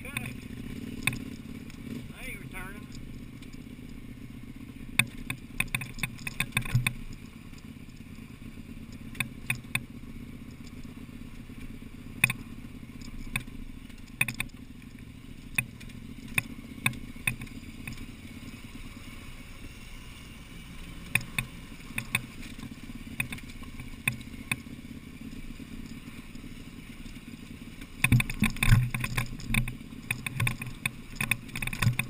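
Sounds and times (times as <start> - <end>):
motorcycle engine running low: 0.0 - 32.0.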